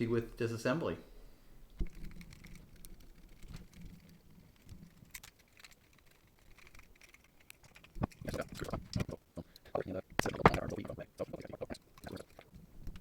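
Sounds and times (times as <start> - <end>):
microphone parts clicking: 1.7 - 13.0.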